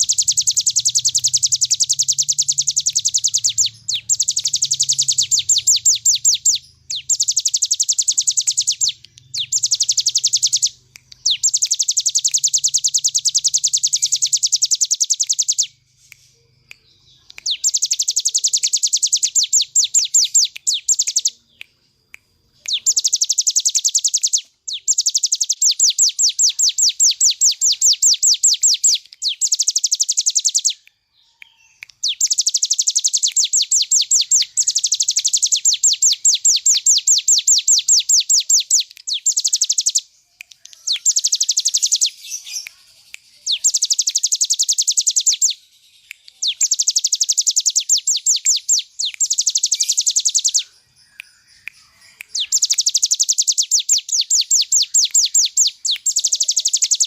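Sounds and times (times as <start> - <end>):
bird singing rapid trill: 0.0 - 21.8, 22.6 - 57.0.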